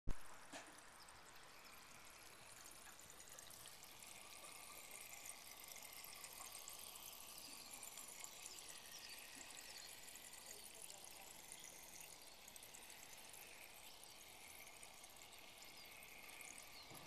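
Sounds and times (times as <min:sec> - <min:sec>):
faint fizzing crackles: 0:00.1 - 0:17.0.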